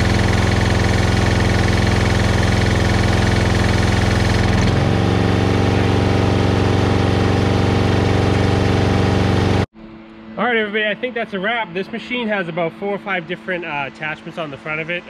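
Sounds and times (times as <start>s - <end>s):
pressure washer engine running: 0.0s - 9.7s, 11.2s - 15.0s.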